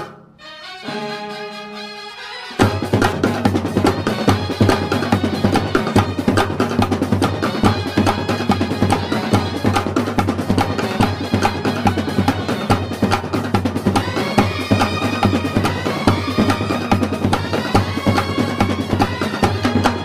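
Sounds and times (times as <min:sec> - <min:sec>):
drums beating: 0:00.0 - 0:01.3, 0:02.4 - 0:20.0
brass horns playing melody: 0:00.4 - 0:20.0.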